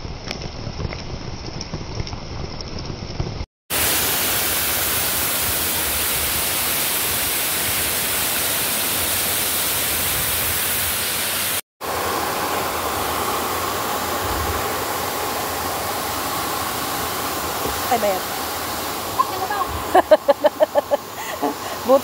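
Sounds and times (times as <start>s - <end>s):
waterfall pouring onto rocks: 0.0s - 11.6s, 12.6s - 22.0s.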